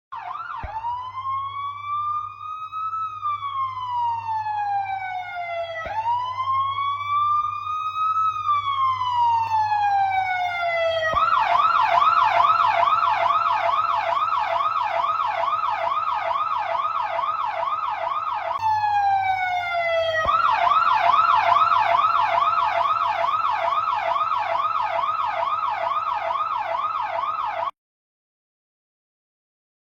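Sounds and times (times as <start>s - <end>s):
police siren wailing and yelping: 0.1s - 27.7s.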